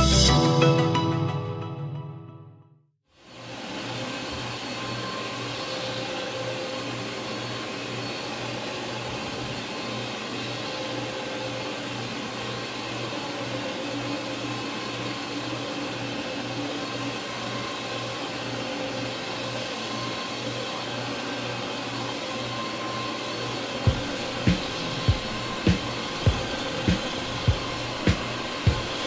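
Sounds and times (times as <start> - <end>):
carpet cleaner motor whirring: 3.3 - 29.0.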